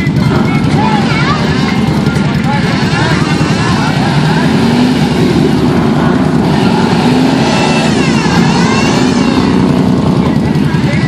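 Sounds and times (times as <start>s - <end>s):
engine revving under load: 0.0s - 11.0s.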